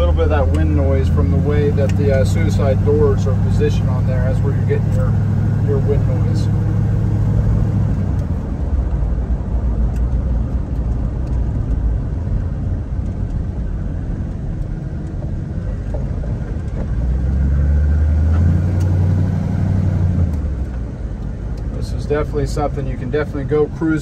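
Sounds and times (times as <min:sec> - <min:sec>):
wind noise in car cabin: 0:00.0 - 0:19.3
car engine running: 0:00.0 - 0:24.0
low engine drone: 0:00.0 - 0:24.0
road noise: 0:00.0 - 0:24.0.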